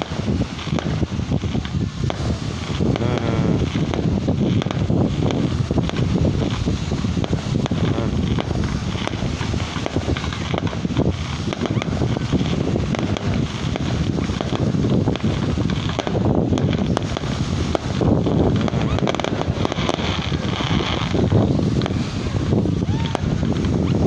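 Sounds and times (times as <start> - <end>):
fireworks bursting: 0.0 - 24.0
wind buffeting microphone: 0.0 - 24.0.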